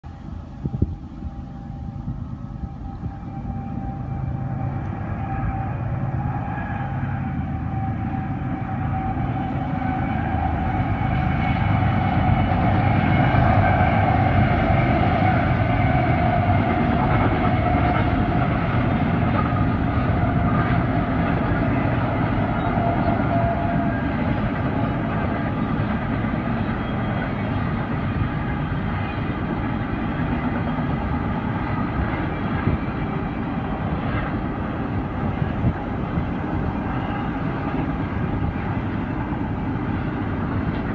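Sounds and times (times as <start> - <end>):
train passing with deep rumble: 0.0 - 40.9.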